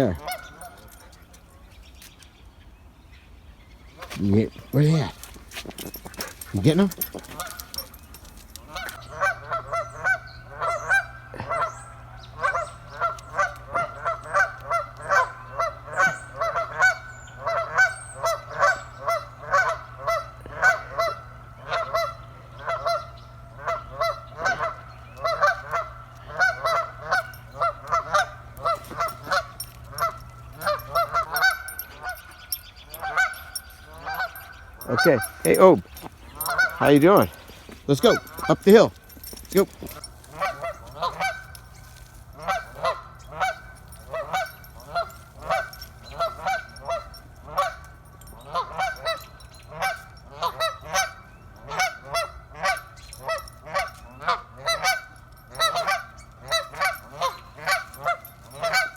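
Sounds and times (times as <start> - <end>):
geese honking: 0.0 - 1.1, 4.0 - 58.9.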